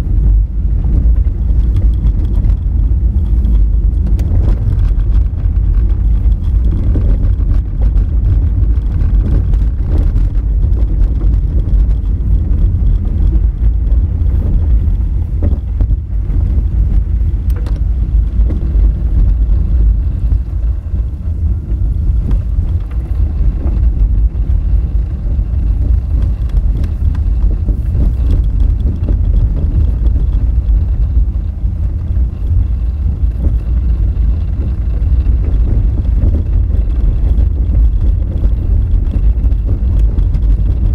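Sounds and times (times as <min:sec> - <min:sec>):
car tyres rumbling on gravel: 0:00.0 - 0:40.9.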